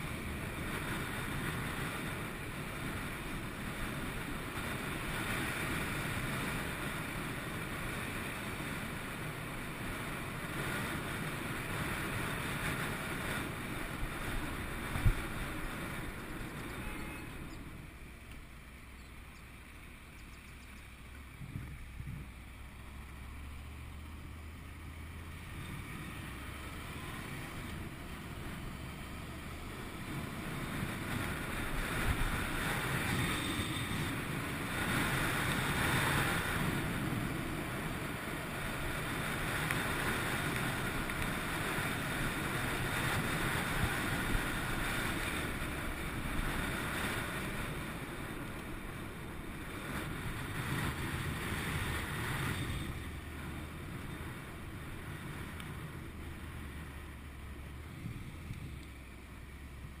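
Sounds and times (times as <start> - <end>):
wind rushing over camera: 0.0 - 18.9, 24.8 - 60.0.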